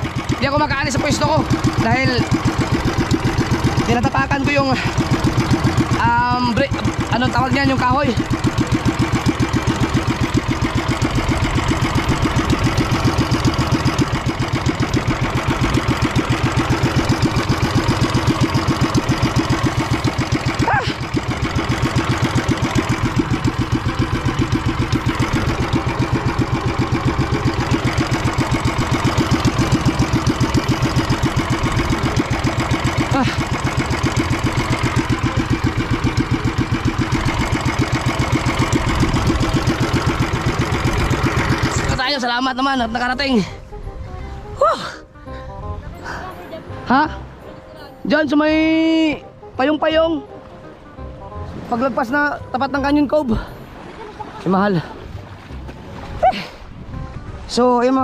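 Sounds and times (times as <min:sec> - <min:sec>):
boat engine chugging: 0:00.0 - 0:58.0.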